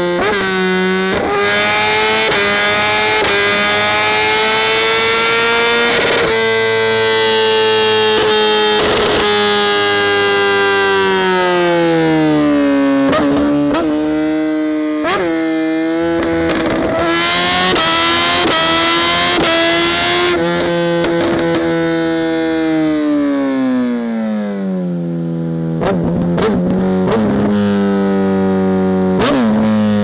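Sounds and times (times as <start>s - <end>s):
motorcycle engine at high revs: 0.0s - 30.0s.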